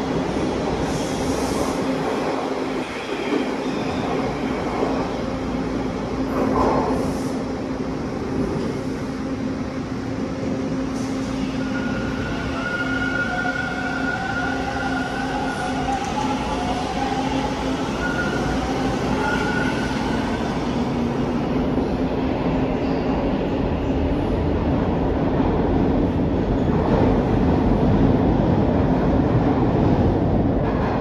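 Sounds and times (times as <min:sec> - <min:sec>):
subway train wheels rumbling: 0:00.0 - 0:31.0.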